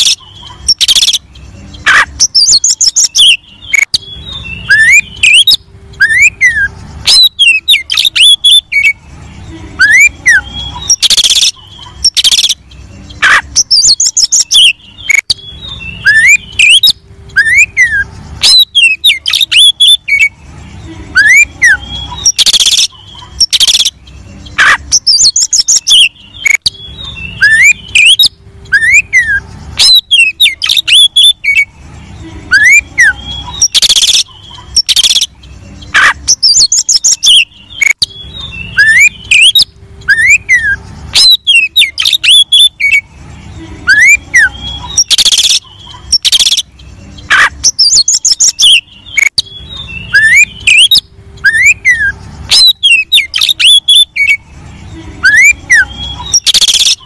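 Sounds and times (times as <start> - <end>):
harsh bird notes: 0.0 - 57.0
songbird whistled song: 0.0 - 57.0.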